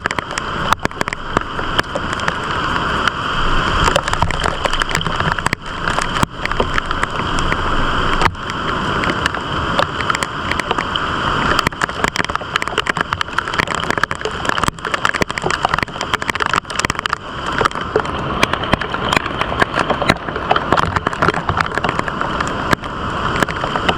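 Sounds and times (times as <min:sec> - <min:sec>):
gusting wind on microphone: 0:00.0 - 0:23.9
heavy rain pattering: 0:00.0 - 0:23.9.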